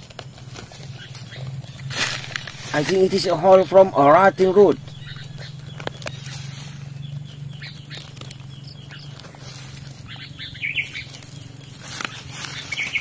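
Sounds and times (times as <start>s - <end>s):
fingers digging in soil: 0.0s - 13.0s
bird chirps: 0.4s - 13.0s.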